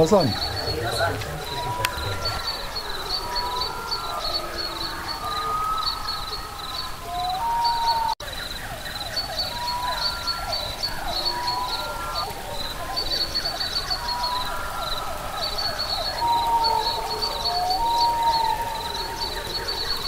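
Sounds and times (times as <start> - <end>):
high-pitched insect chirp: 0.0 - 20.0
swooping bird calls: 0.0 - 20.0
whistled bird calls: 0.0 - 20.0.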